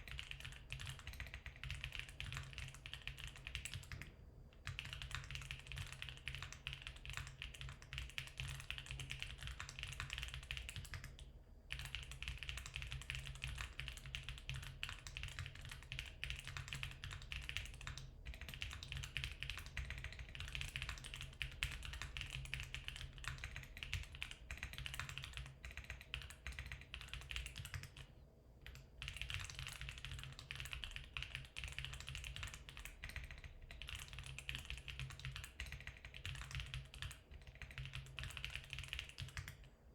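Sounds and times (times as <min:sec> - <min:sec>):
fast mechanical keyboard typing: 0:00.0 - 0:39.7.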